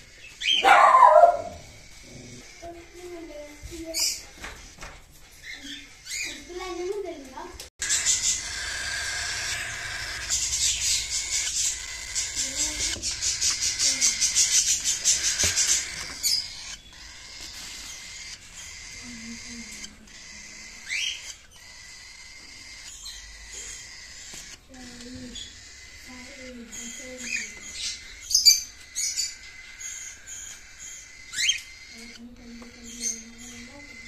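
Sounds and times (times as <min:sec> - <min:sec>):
cockatiel chicks chittering: 0:00.0 - 0:34.0.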